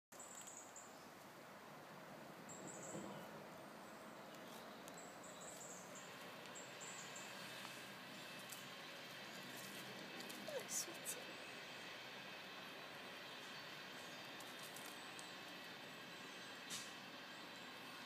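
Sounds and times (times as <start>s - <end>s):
faint outdoor hiss: 0.1s - 18.0s.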